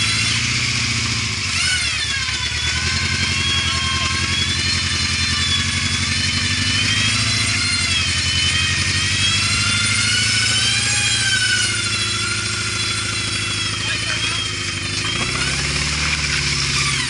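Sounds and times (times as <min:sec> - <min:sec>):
high whine: 0:00.0 - 0:17.0
off-road vehicle engine running: 0:00.0 - 0:17.0.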